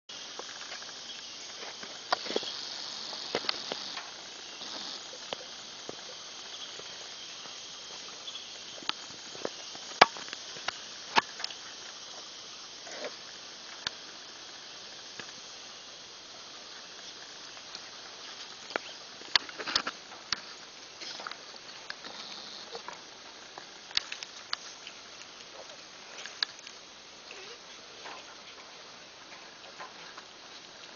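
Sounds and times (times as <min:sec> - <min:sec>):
steady high hiss: 0:00.0 - 0:30.9.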